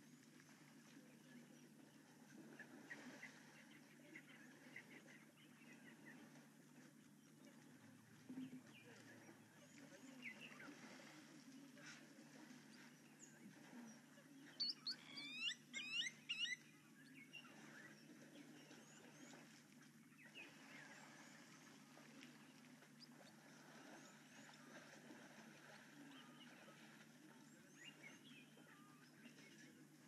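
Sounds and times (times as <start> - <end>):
faint bird calls: 0.0 - 29.8
low steady hum: 0.0 - 30.0.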